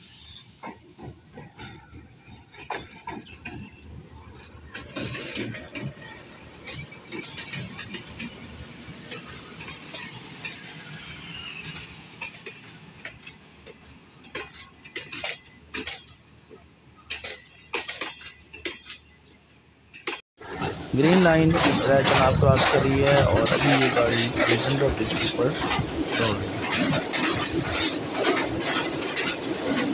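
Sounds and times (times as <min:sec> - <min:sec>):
train wheels clicking over rail joints: 0:00.0 - 0:29.9.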